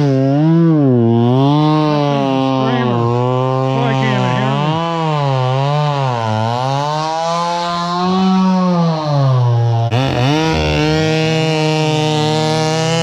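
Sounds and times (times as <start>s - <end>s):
chainsaw cutting through log: 0.0s - 13.0s
chainsaw revving: 0.0s - 13.0s.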